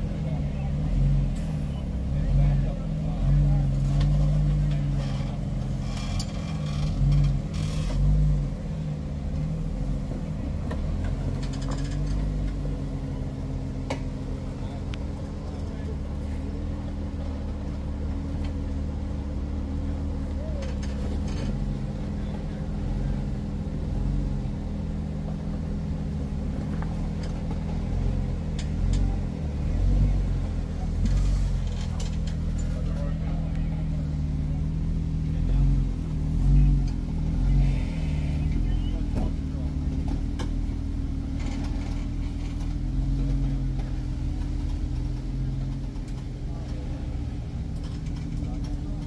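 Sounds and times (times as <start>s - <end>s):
engine running at low revs: 0.0s - 49.0s
tires and suspension knocking: 2.7s - 49.0s.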